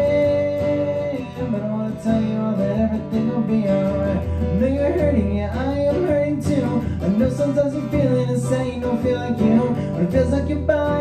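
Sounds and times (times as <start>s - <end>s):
acoustic guitar strumming: 0.0s - 11.0s
man singing wordless notes: 0.0s - 11.0s.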